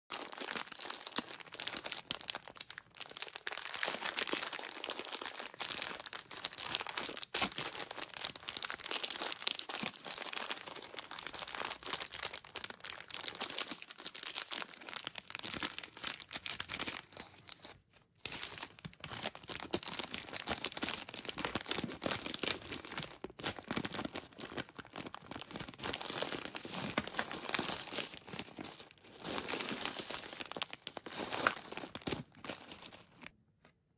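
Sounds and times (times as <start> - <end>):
wrapper tearing open: 0.1 - 33.3
plastic candy wrapper crinkling: 0.1 - 33.7.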